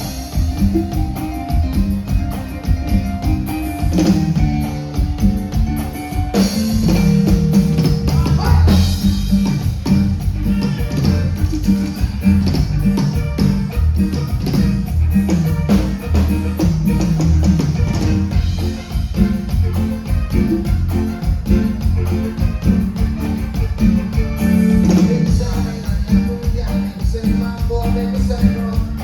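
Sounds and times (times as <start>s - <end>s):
live band dance music: 0.0s - 29.0s.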